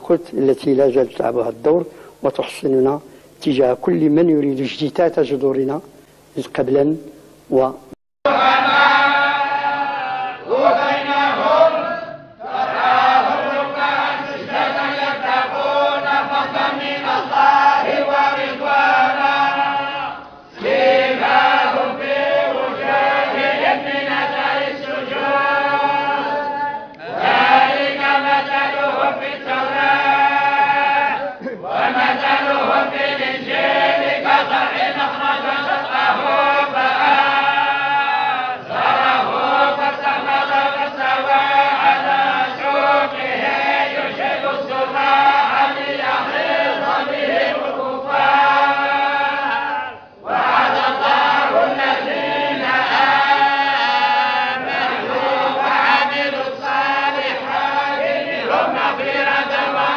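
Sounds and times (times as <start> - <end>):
men chanting in unison: 8.3 - 59.9.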